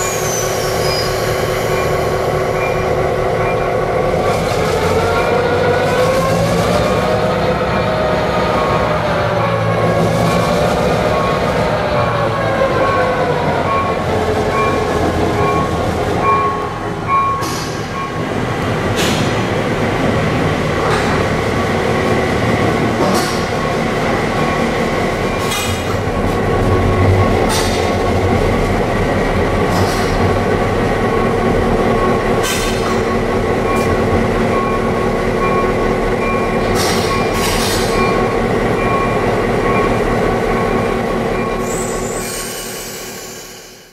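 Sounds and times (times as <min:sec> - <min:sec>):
diesel locomotive engine running: 0:00.0 - 0:43.9.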